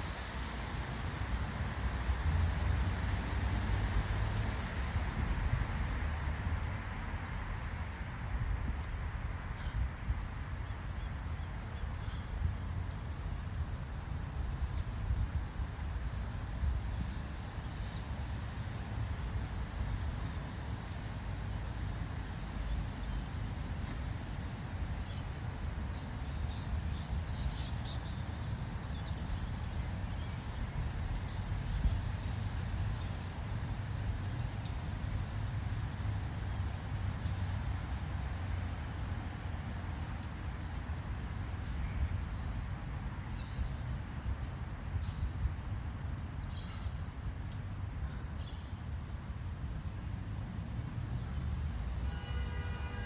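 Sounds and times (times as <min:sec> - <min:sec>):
steady low rumble: 0:00.0 - 0:52.0
steady outdoor hiss: 0:00.0 - 0:53.0.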